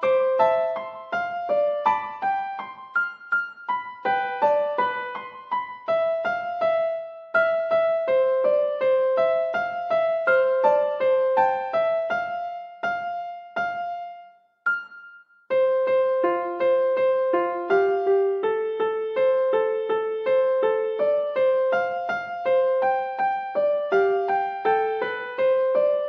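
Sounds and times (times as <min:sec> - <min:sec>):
electric piano melody: 0:00.0 - 0:26.0.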